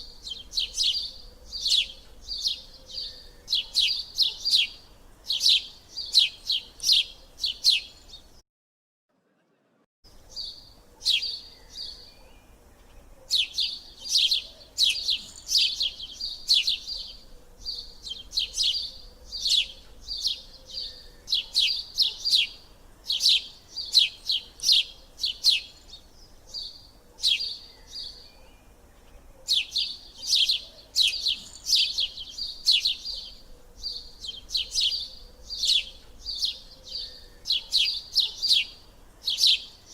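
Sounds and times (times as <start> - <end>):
small bird chirping: 0.0 - 8.4, 10.2 - 39.9.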